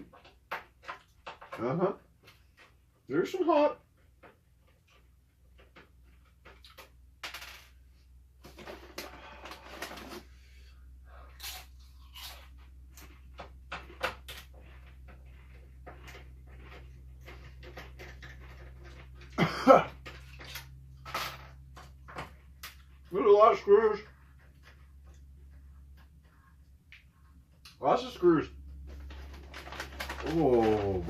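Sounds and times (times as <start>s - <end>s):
rustling and scraping: 3.8s - 10.7s, 11.4s - 31.0s.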